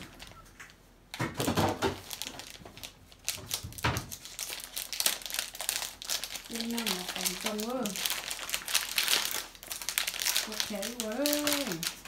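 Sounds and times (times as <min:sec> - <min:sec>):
plastic crinkling: 0:00.0 - 0:12.0
scissors snipping plastic bag: 0:01.9 - 0:12.0.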